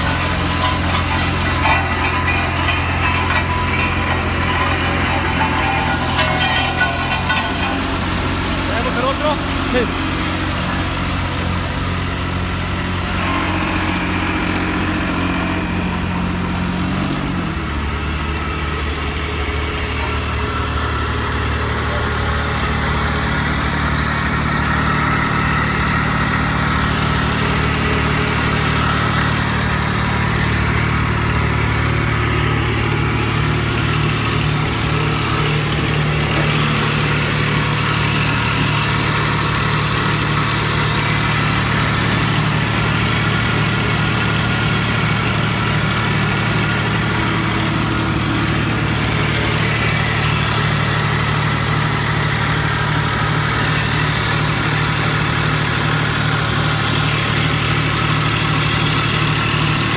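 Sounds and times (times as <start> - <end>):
road roller engine running: 0.0 - 59.9.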